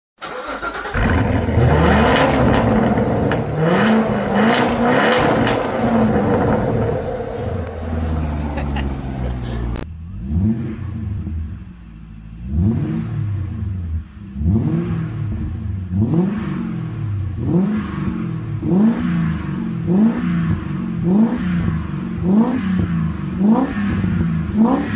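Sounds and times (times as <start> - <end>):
car engine revving: 0.2 - 24.9.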